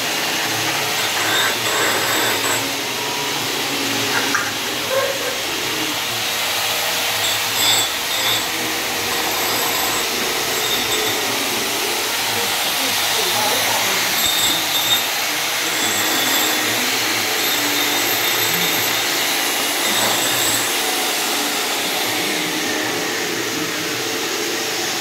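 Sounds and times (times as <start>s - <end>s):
electric polisher whirring: 0.0s - 25.0s.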